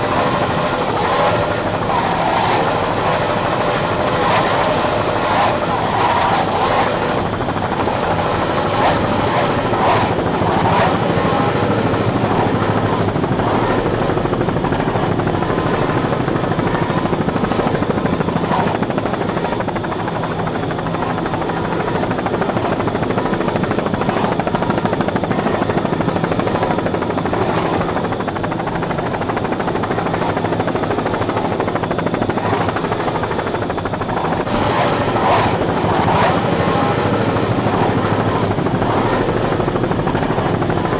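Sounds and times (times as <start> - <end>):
loud racing engine noise: 0.0 - 40.9.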